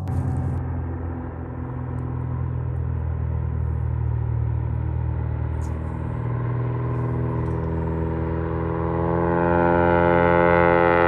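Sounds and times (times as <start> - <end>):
propeller engine droning: 0.0 - 11.0.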